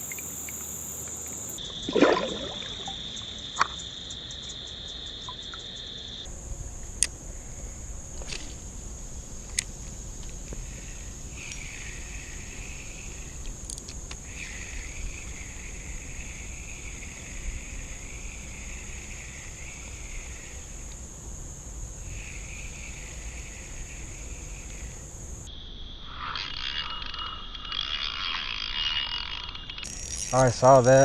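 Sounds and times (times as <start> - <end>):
high-pitched insect drone: 0.0 - 6.4, 7.1 - 31.0
lower wavering insect song: 0.0 - 31.0.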